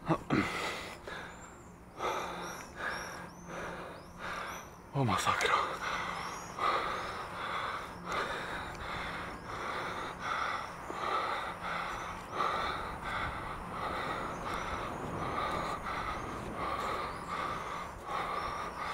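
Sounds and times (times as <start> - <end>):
person panting: 0.3 - 4.8, 5.7 - 18.9.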